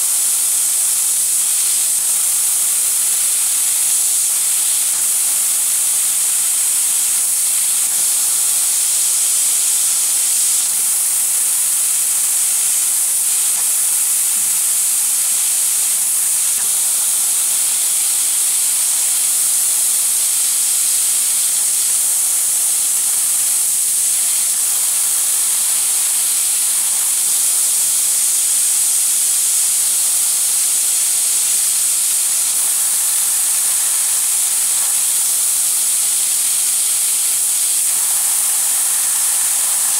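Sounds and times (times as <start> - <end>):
laser cutting machine hiss: 0.0 - 39.9.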